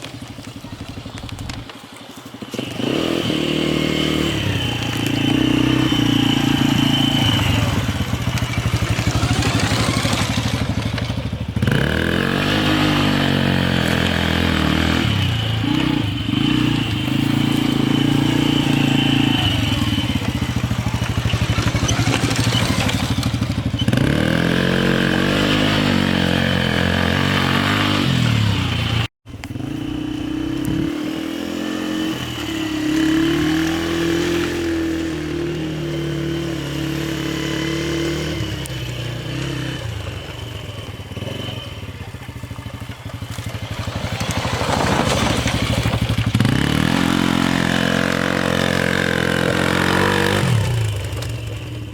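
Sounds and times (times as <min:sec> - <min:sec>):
quad bike engine revving: 0:02.4 - 0:51.9.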